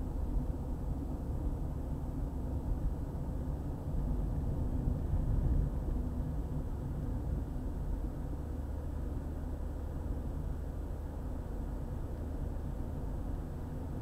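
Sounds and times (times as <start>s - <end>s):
car driving road noise: 0.0s - 14.0s.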